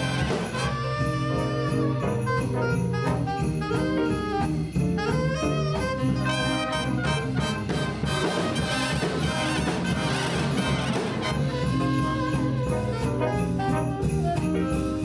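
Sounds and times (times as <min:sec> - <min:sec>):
jazz ensemble with saxophones and brass: 0:00.0 - 0:15.0.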